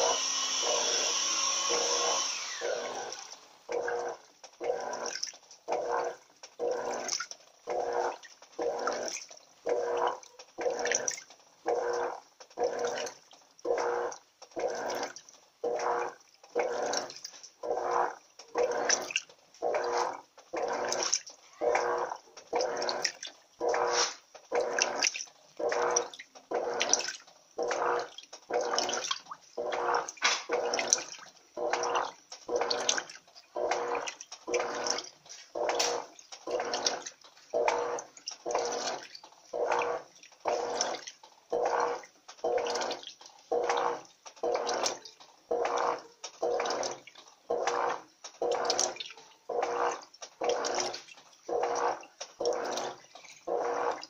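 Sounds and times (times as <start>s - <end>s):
washing machine motor hum: 0.0s - 54.0s
washing machine water swishing: 0.0s - 54.0s.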